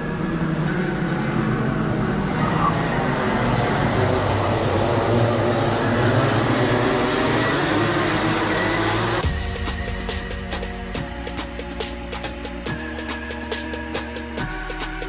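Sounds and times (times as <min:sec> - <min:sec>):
kart engines droning: 0:00.0 - 0:15.0.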